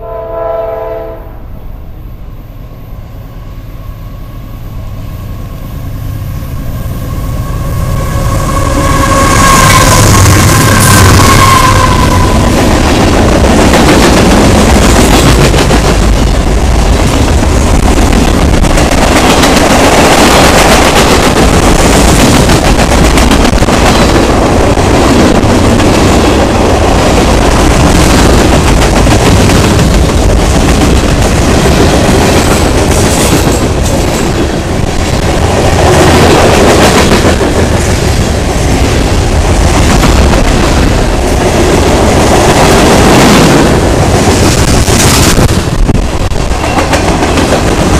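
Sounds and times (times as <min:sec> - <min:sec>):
freight train cars rumbling: 0:00.0 - 0:47.9.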